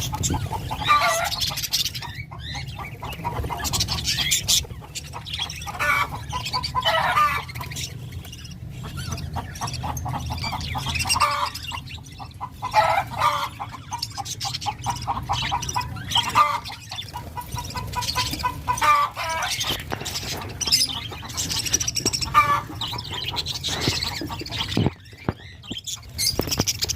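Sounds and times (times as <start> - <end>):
birds calling: 0.0 - 26.9.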